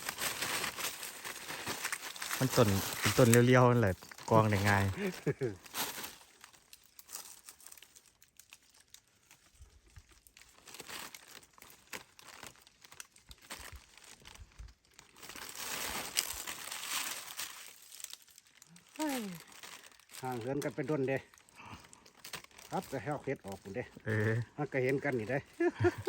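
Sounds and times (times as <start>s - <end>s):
dry leaves rustling and crackling: 0.0s - 26.0s.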